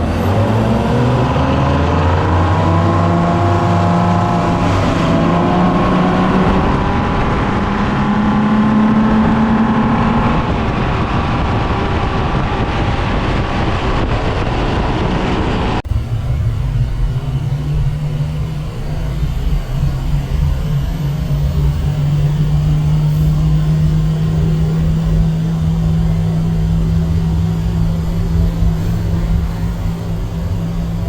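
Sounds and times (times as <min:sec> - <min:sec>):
outboard engine running hard: 0:00.0 - 0:31.0
wind: 0:00.0 - 0:31.0.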